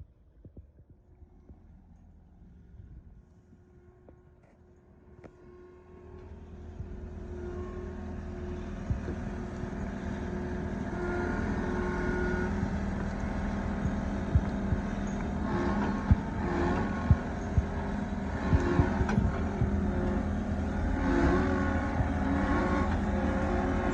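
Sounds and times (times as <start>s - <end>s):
engine running: 0.8s - 23.9s.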